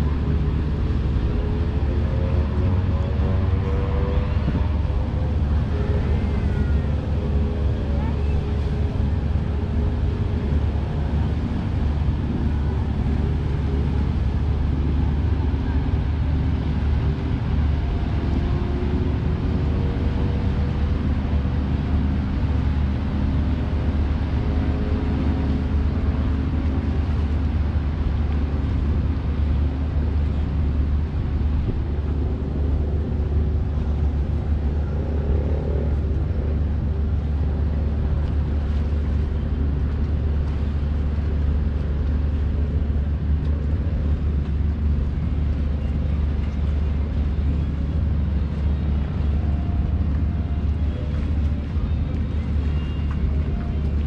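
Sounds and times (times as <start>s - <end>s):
deep rumble: 0.0s - 54.0s
distant ship engines droning: 0.0s - 54.0s.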